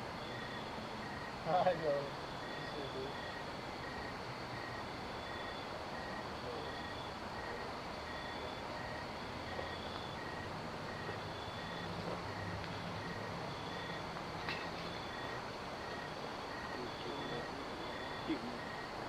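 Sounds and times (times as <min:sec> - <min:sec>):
insect chorus: 0:00.0 - 0:19.0
short repeating insect chirp: 0:00.1 - 0:19.0.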